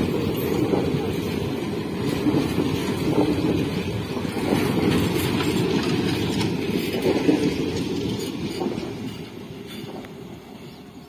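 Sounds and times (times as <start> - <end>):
train wheels rumbling on rail: 0.0 - 11.0
wheels clicking over rail joints: 0.0 - 11.0.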